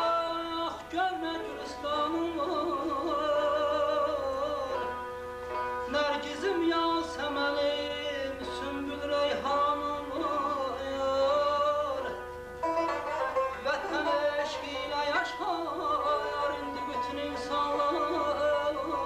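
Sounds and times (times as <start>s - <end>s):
man singing ornamented phrases: 0.0s - 5.0s, 5.8s - 12.4s, 13.5s - 19.0s
instrumental accompaniment: 0.0s - 19.0s.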